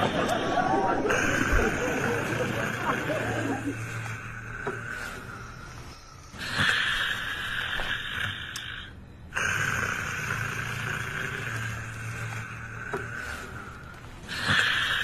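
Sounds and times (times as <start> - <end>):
person snoring: 1.0 - 15.0.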